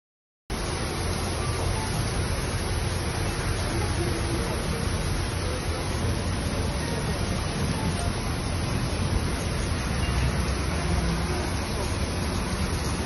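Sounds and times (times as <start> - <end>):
torrential rain: 0.5 - 13.0.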